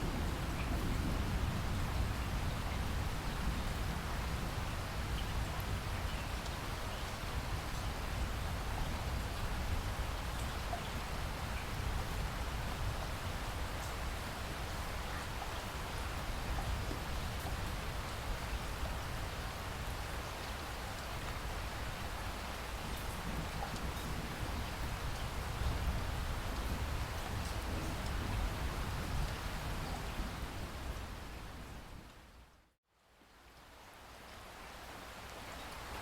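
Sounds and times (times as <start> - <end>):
rain on foliage: 0.0 - 36.0.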